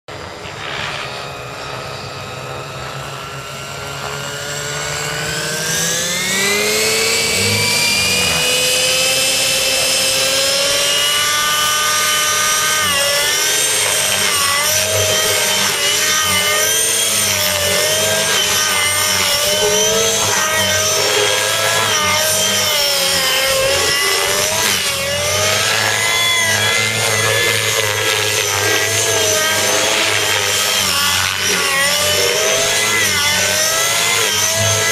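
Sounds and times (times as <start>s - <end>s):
model helicopter engine whining: 0.0s - 34.9s.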